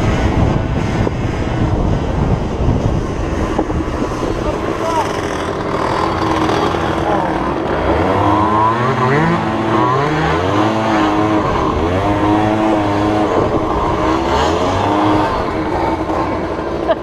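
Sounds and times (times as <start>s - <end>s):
dirt bike engine revving: 2.6s - 17.0s.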